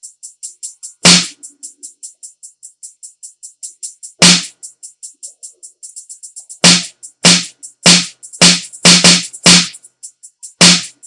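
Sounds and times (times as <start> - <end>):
drum machine hi-hats ticking: 0.0 - 11.0.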